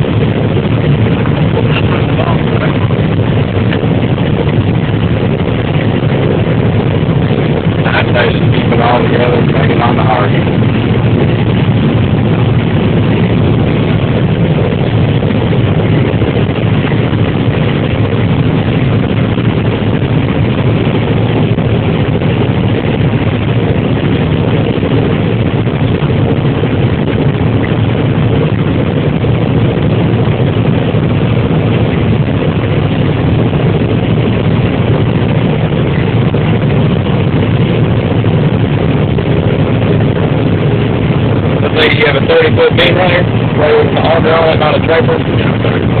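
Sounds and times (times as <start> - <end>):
combine engine drone from cab: 0.0 - 46.0.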